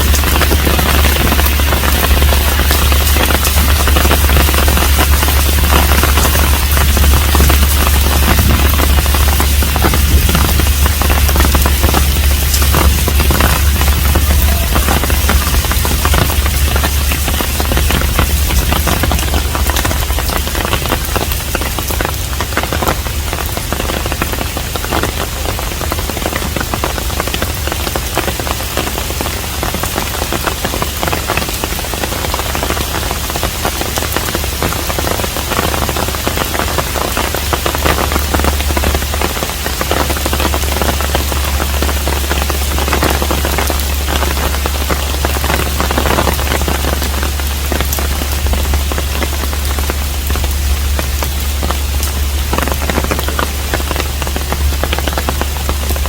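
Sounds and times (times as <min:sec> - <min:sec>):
low rumble: 0:00.0 - 0:56.0
rain pattering on a roof: 0:00.0 - 0:56.0.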